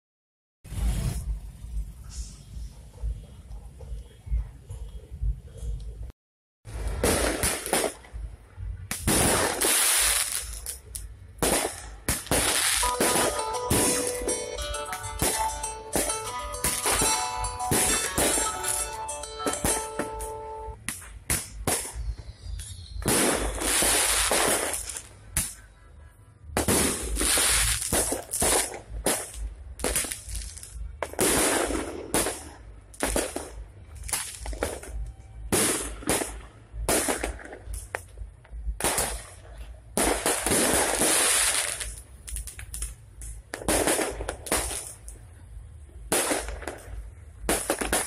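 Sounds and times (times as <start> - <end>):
fireworks crackling: 0.7 - 2.6, 6.7 - 25.6, 26.6 - 45.4, 46.0 - 48.0
fireworks bangs: 6.7 - 25.6, 26.6 - 45.2, 46.0 - 48.0.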